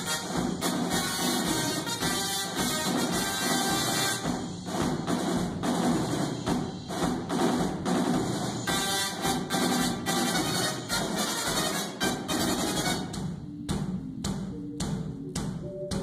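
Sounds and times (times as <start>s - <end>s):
music with percussive beat: 0.0s - 16.0s.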